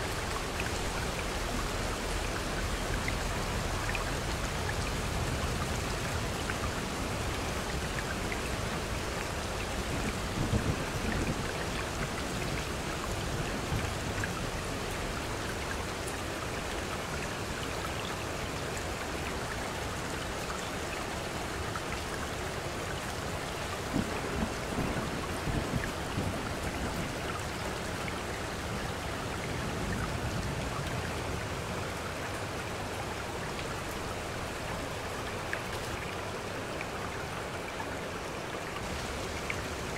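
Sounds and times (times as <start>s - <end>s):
rain falling: 0.0s - 39.9s
stream water running: 0.0s - 39.9s.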